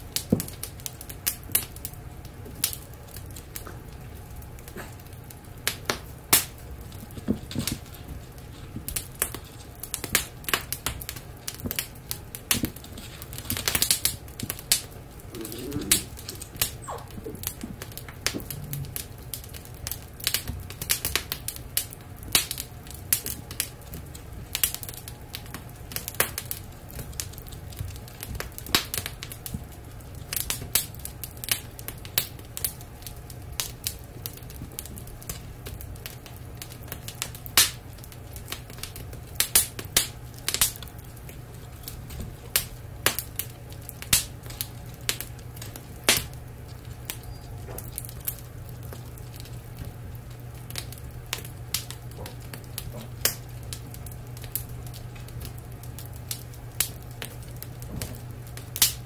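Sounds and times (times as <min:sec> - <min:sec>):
steady low hum: 0:00.0 - 0:59.0
wood fire crackling: 0:00.0 - 0:59.0
sharp pops of fire: 0:00.1 - 0:50.0, 0:50.6 - 0:59.0.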